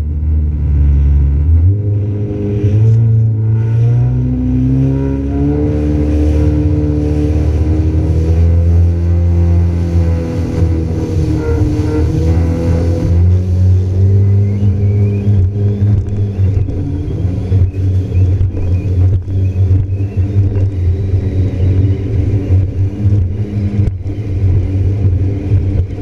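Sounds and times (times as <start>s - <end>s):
jet ski engine drone: 0.0s - 26.0s.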